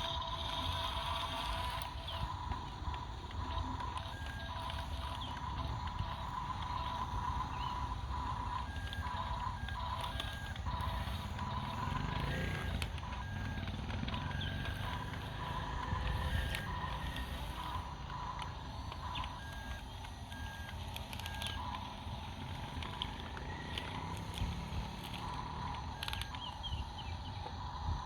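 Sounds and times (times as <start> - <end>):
diesel engine rumbling: 0.0 - 28.0
reversing alarm beeping: 0.0 - 28.0.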